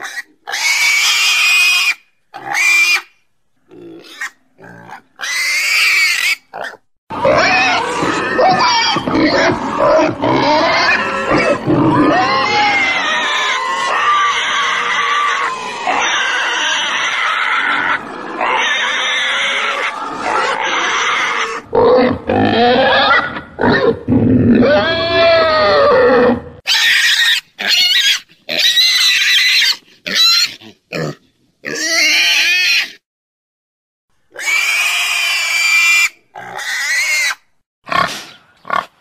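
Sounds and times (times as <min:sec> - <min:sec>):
pigs squealing: 0:00.0 - 0:03.1, 0:03.7 - 0:33.0, 0:34.3 - 0:38.9.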